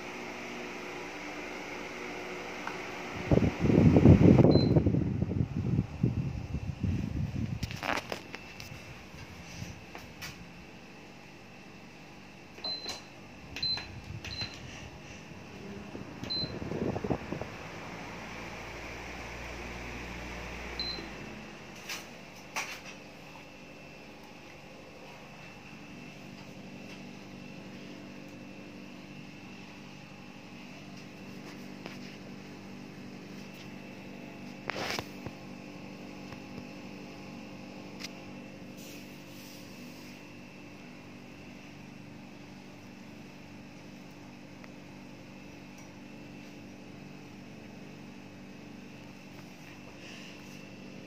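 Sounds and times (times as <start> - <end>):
electric fan humming: 0.0 - 51.0.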